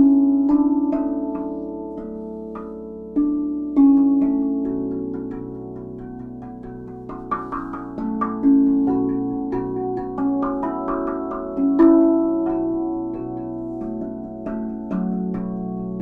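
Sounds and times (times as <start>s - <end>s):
steel tongue drum notes ringing: 0.0s - 16.0s.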